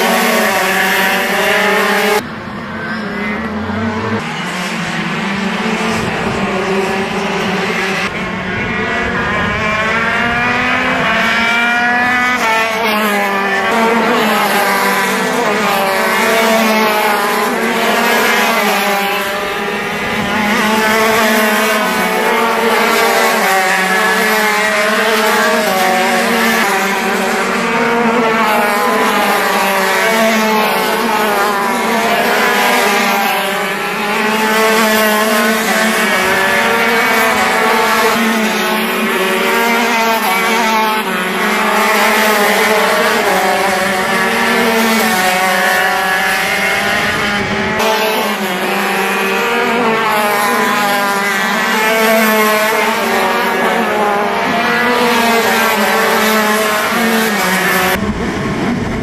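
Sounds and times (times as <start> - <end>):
racing kart engines: 0.0 - 59.0.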